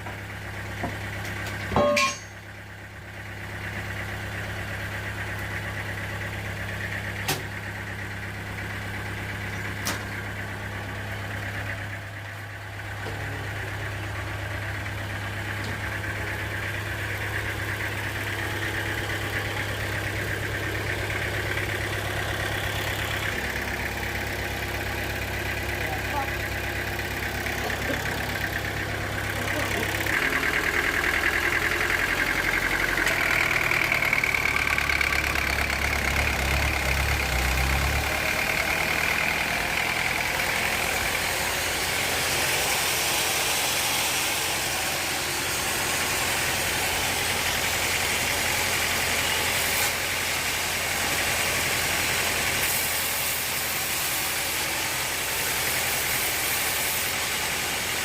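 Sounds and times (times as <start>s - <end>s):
sawmill machinery hum: 0.0s - 58.0s.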